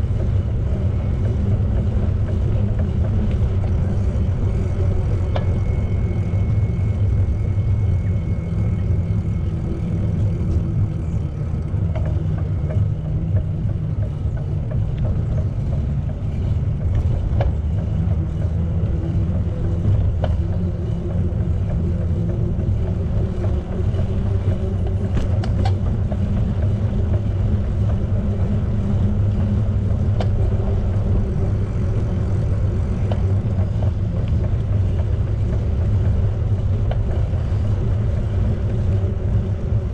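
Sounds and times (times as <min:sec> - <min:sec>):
wind and bicycle rolling noise: 0:00.0 - 0:39.9.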